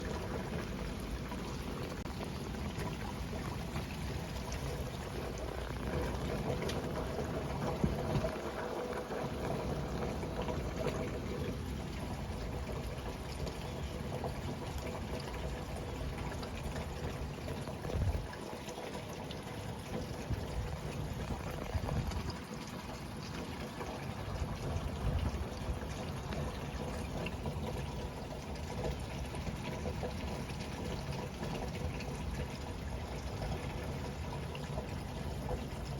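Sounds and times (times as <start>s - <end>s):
water running: 0.0s - 35.9s.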